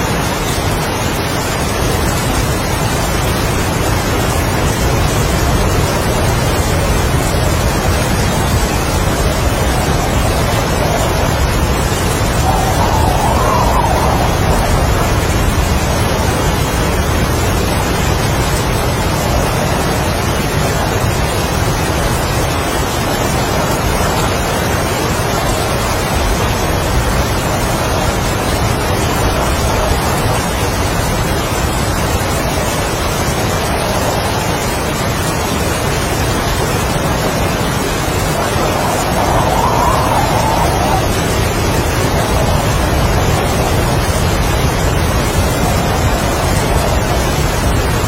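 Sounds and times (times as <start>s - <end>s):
gusting wind: 0.0s - 48.0s
heavy rain: 0.0s - 48.0s.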